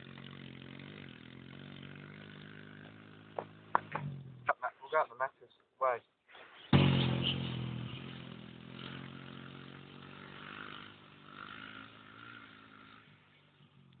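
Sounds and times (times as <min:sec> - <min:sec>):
motorcycle engine running: 0:00.0 - 0:04.6, 0:06.7 - 0:14.0.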